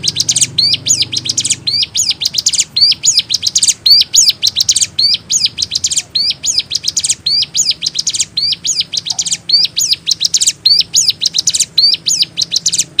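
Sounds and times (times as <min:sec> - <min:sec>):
bird chirping rapidly: 0:00.0 - 0:13.0.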